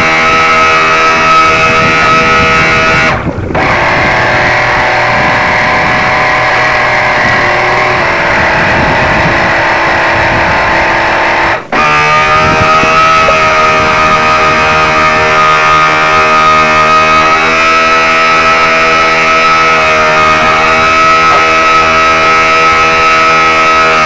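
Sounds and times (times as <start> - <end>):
model boat motor whining: 0.0 - 24.0.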